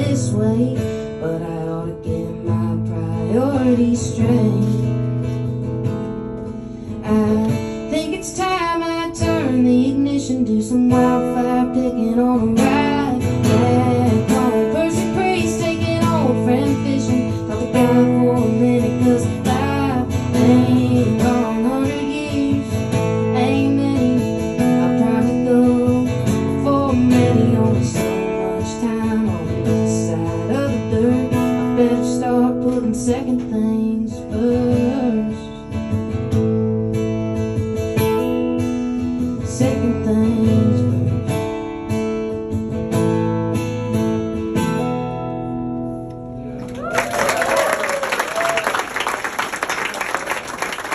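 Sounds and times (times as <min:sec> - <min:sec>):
acoustic guitar strumming and picking: 0:00.0 - 0:46.7.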